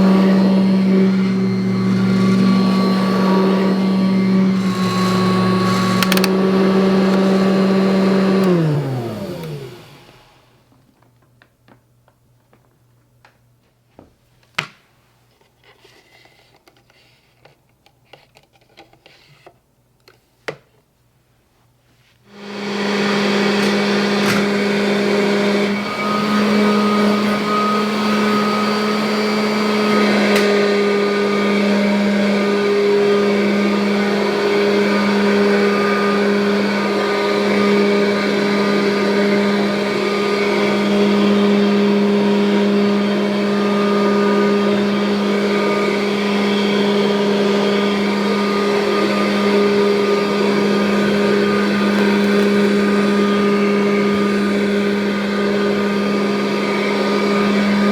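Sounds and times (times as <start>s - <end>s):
vacuum cleaner running: 0.0s - 10.7s, 22.3s - 57.9s.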